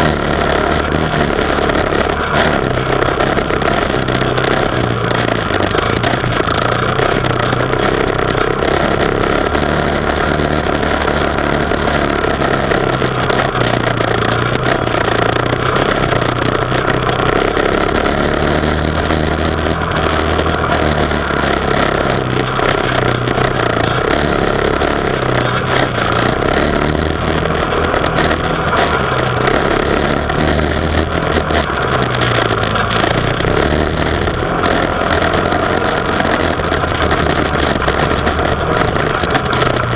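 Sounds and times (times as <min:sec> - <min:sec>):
atv engine running: 0:00.0 - 0:39.9
steady rushing noise: 0:00.0 - 0:39.9.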